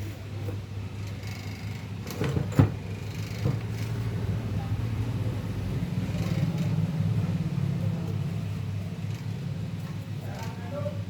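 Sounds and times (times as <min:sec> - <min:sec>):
table fan motor humming: 0:00.0 - 0:11.0.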